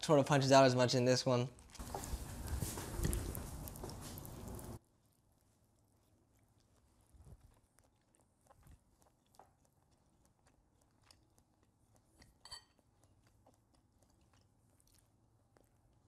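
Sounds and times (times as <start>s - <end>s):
faint chewing: 1.5s - 16.0s.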